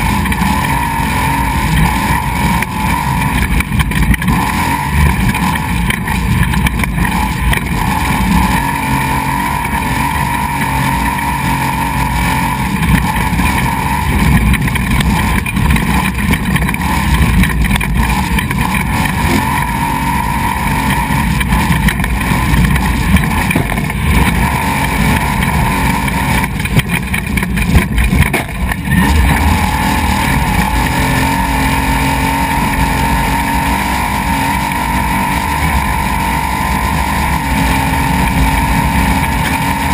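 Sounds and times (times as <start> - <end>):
road and wind noise: 0.0 - 39.9
truck engine running hard: 0.0 - 39.9.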